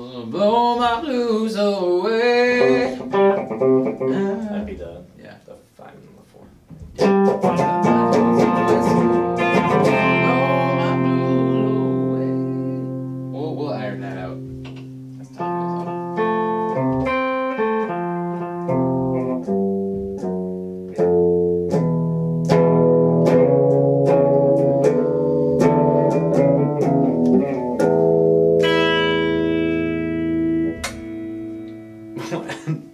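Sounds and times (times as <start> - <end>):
electric guitar solo: 2.5 - 4.7, 7.0 - 32.5.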